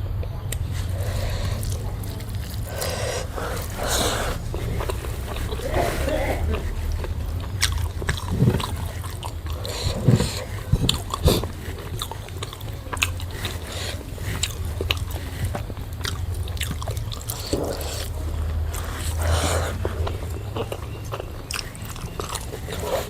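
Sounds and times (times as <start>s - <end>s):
chewing and crunching: 0.0s - 23.0s
steady low hum: 0.0s - 23.0s
mouth smacks: 0.5s - 23.0s.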